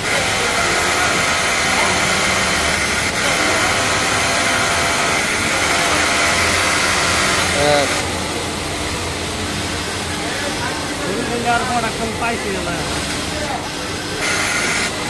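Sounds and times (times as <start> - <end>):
sewing machine whirring: 0.0 - 15.0.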